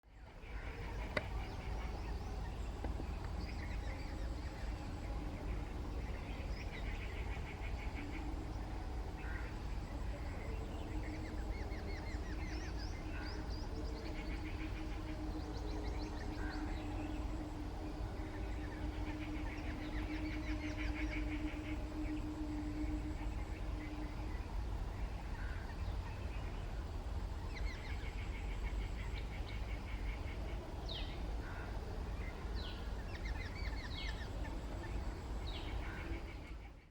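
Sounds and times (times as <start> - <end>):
steady low rumble: 0.0 - 36.9
birds trilled chatter: 0.3 - 36.9
birds downward-sweeping chirps: 0.7 - 36.9.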